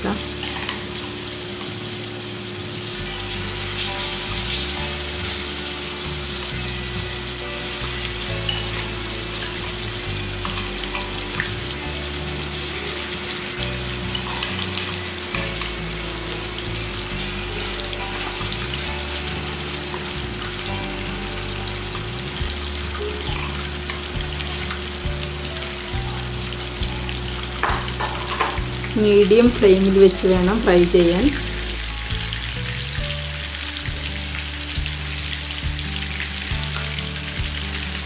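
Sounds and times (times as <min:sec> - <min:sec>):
chicken sizzling in frying pan: 0:00.0 - 0:38.0.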